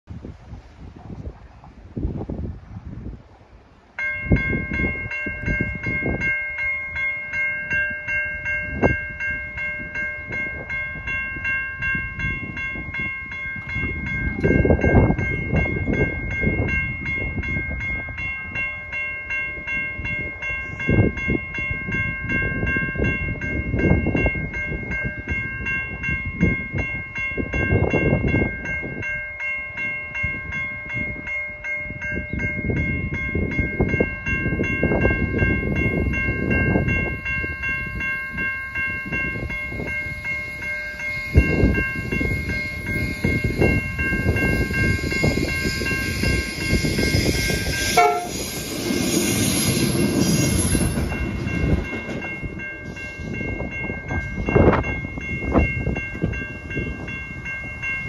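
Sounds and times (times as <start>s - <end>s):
level crossing warning bells: 3.6s - 58.0s.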